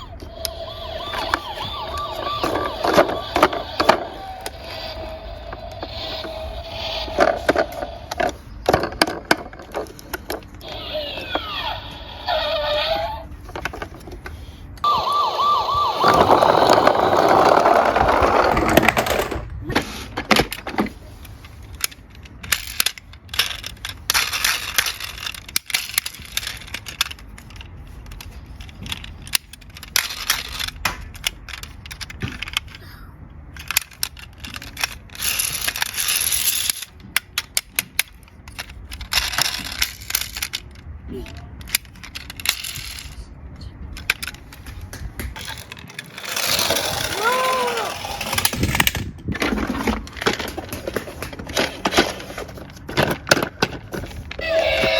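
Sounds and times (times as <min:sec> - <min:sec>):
toy cars clattering: 0:00.0 - 0:54.9.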